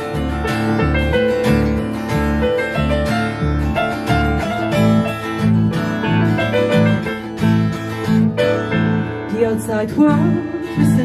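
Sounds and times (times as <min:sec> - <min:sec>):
electric bass line: 0:00.0 - 0:09.3
keyboard: 0:00.0 - 0:11.0
strummed acoustic guitar: 0:00.0 - 0:11.0.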